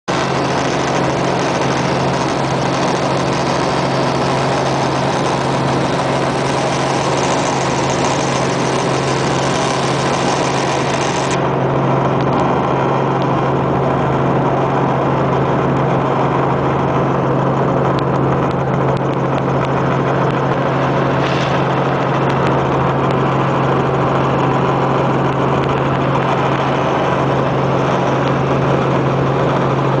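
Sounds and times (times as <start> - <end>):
helicopter in flight: 0.0 - 30.0.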